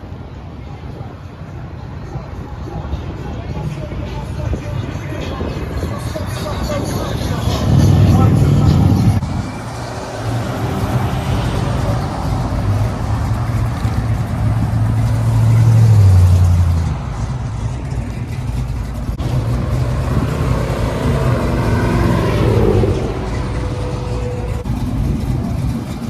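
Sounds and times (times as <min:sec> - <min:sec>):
car engines driving off: 0:00.0 - 0:26.0.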